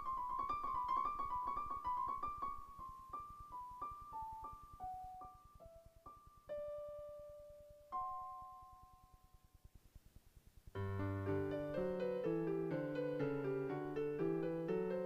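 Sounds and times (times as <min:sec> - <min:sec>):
slow solo piano piece: 0:00.0 - 0:09.3, 0:10.8 - 0:15.0.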